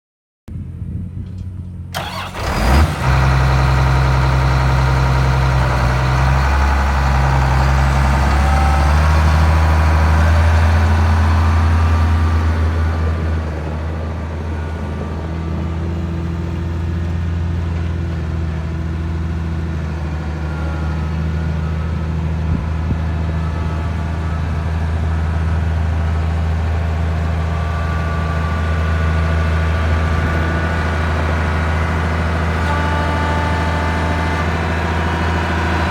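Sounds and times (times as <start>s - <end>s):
tractor diesel engine idling: 1.9s - 35.9s.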